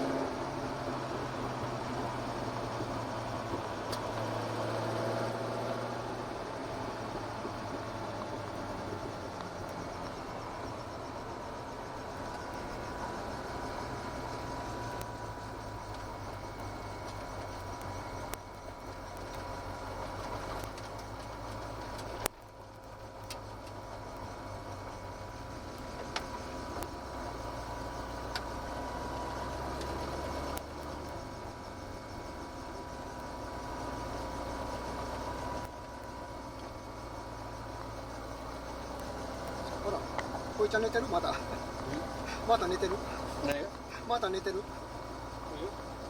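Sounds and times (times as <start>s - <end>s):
engine running at low revs: 0.0s - 46.0s.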